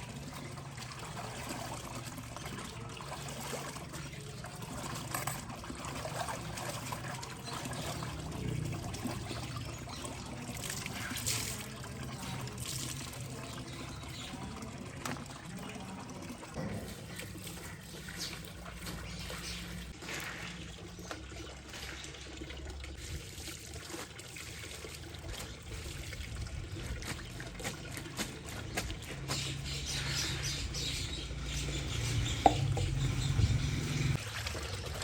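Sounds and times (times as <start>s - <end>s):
water splashes: 0.0s - 35.0s
water trickling and pouring: 0.0s - 35.0s.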